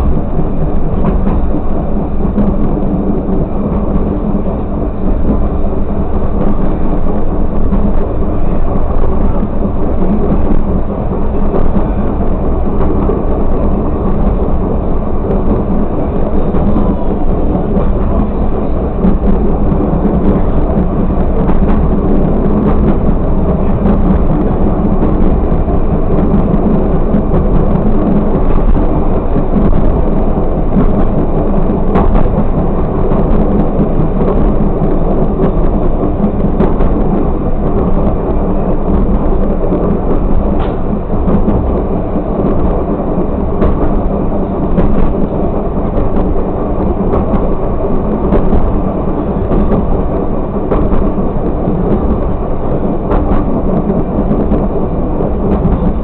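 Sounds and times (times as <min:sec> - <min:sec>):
railcar rumbling on track: 0:00.0 - 0:56.0.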